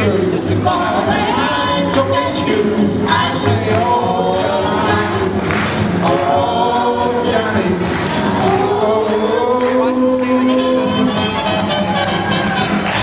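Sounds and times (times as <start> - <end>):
steady bass line: 0.0 - 13.0.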